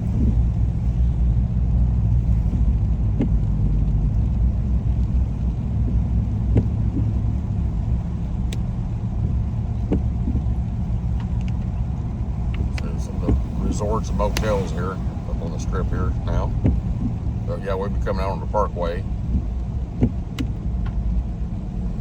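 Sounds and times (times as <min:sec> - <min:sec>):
road and engine rumble: 0:00.0 - 0:22.0.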